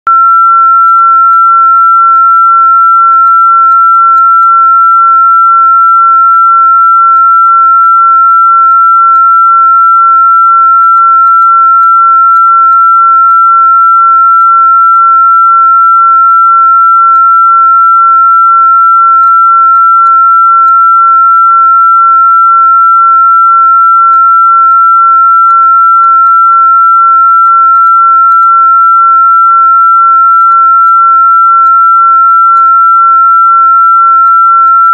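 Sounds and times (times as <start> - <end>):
high-pitched electronic sine tone: 0.1 - 34.9.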